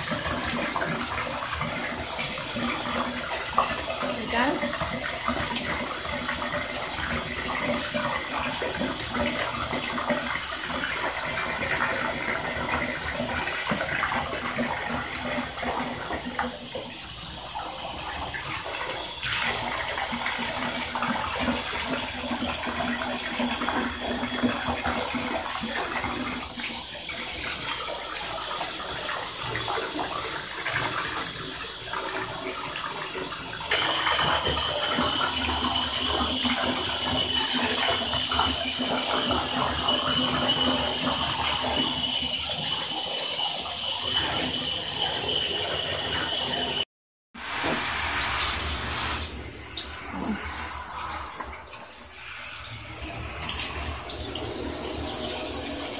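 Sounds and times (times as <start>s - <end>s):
water running into bathtub: 0.0s - 55.9s.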